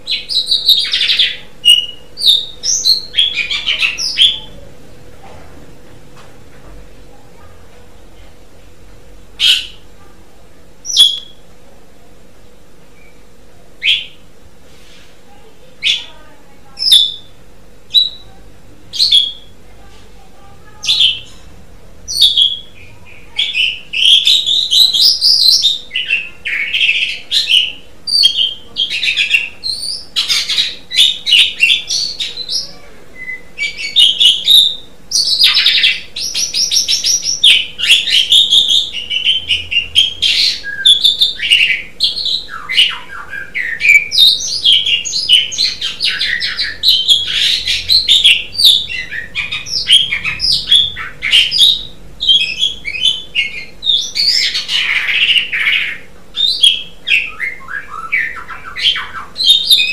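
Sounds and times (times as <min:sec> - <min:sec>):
bird chattering and whistling: 0:00.0 - 0:04.7, 0:09.4 - 0:09.9, 0:10.8 - 0:11.4, 0:13.8 - 0:14.3, 0:15.8 - 0:19.6, 0:20.7 - 0:21.4, 0:22.1 - 0:59.9.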